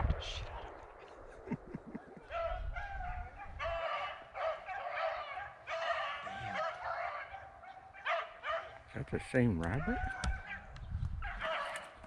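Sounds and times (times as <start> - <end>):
beagles baying: 1.4 - 12.0.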